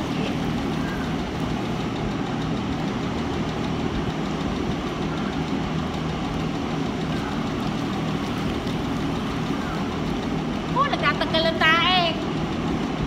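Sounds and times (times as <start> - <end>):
pressure washer motor humming: 0.0 - 13.0.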